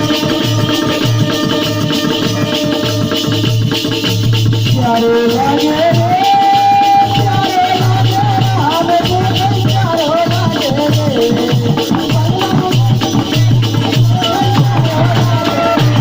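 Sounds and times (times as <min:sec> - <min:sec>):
drum rhythm: 0:00.0 - 0:16.0
rattling percussion: 0:00.0 - 0:16.0.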